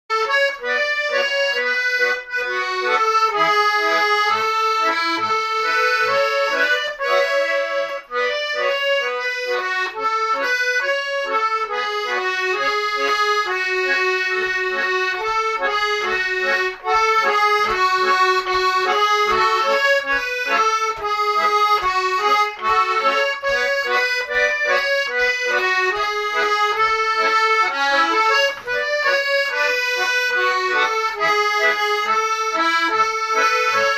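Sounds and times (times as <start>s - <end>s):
button accordion melody: 0.1s - 33.9s.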